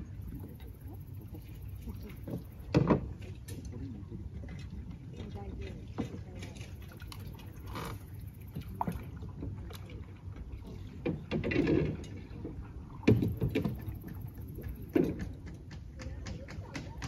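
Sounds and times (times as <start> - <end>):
low steady background noise: 0.0 - 17.0
paddles splashing in water: 0.0 - 17.0.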